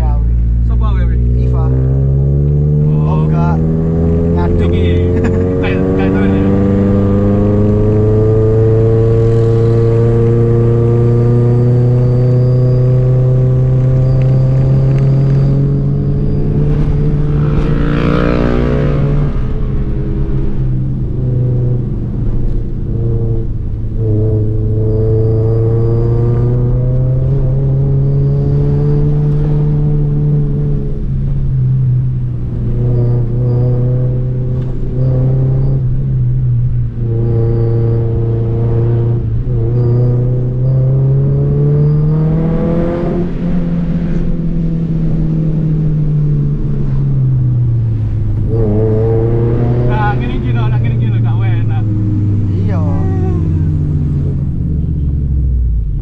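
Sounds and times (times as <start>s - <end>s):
car engine pulling uphill: 0.0s - 56.0s.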